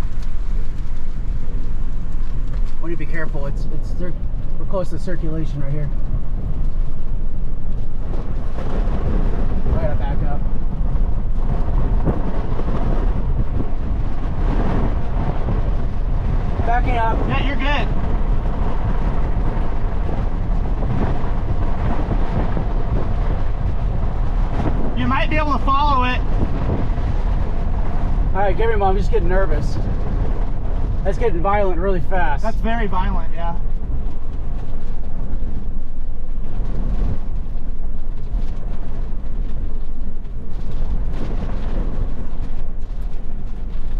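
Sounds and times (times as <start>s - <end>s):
strong wind buffeting microphone: 0.0s - 43.9s
vehicle moving: 0.0s - 43.9s.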